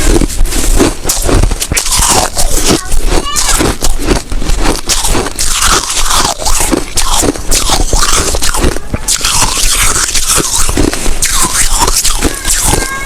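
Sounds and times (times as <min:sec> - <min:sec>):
chewing ice crunching: 0:00.0 - 0:13.0.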